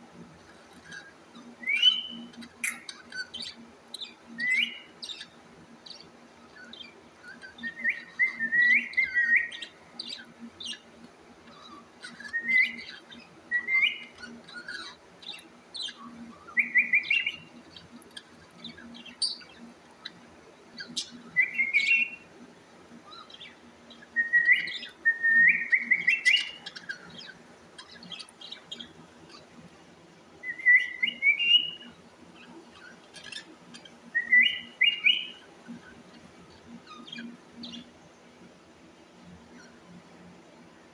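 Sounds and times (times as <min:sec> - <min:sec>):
caged birds chirping: 0:00.0 - 0:40.9
soft bird ticks and chatter: 0:00.0 - 0:40.9.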